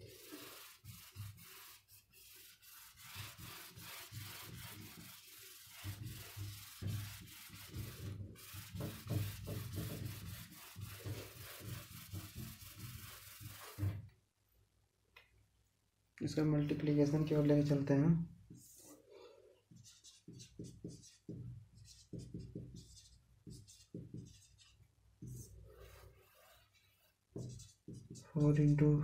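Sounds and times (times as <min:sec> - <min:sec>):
duster rubbing whiteboard: 0:00.0 - 0:14.1, 0:19.7 - 0:28.8.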